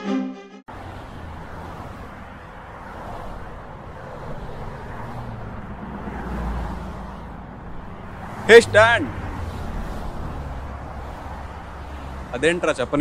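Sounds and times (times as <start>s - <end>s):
road noise: 0.6s - 13.0s.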